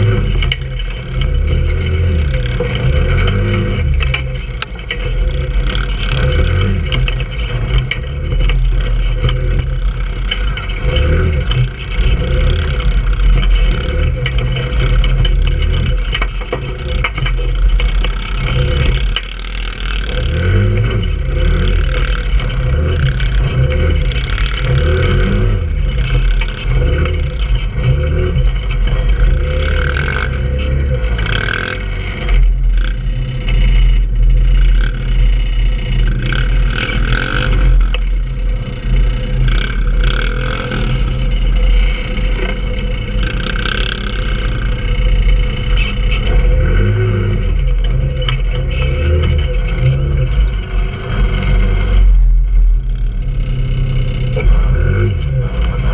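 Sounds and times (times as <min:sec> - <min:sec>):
go-kart engine running: 0:00.0 - 0:55.9
knocks and rattles on bumps: 0:00.0 - 0:55.9.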